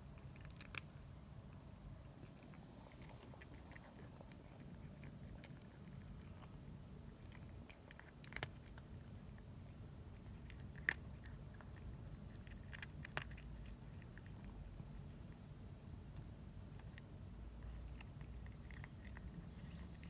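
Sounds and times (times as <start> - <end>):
cat crunching dry food: 0.0 - 15.4, 16.6 - 20.0.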